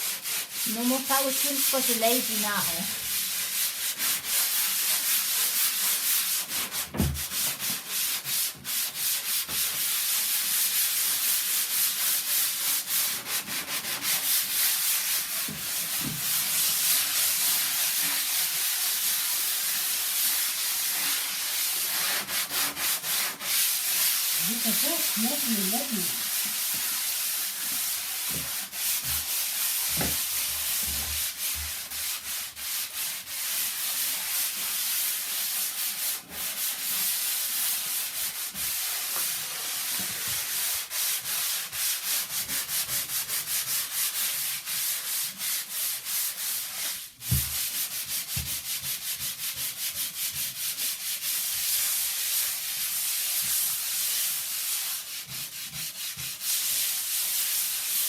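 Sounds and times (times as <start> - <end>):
sandpaper rubbing a surface: 0.0 - 58.0.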